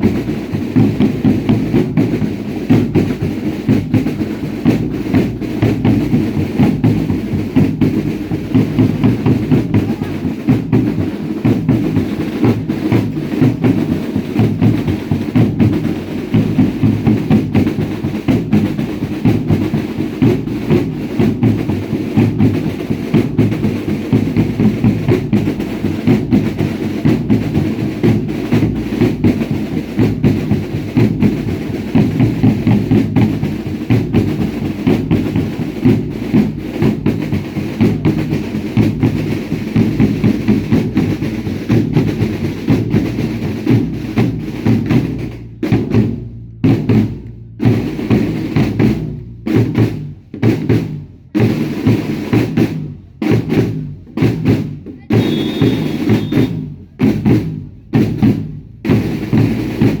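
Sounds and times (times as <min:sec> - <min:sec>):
drumming: 0:00.0 - 1:00.0.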